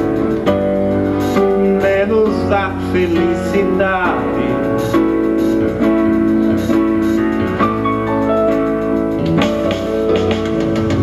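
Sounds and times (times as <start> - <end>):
keyboard melody line: 0.0 - 11.0
keyboard playing held chords: 0.0 - 11.0.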